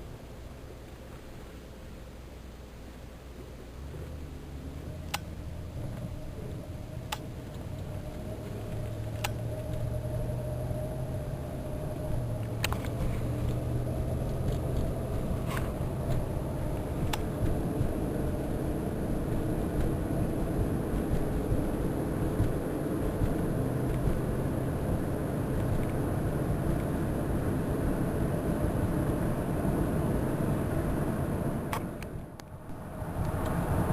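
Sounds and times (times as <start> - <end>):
car engine hum: 0.0 - 33.9
road noise: 0.0 - 33.9.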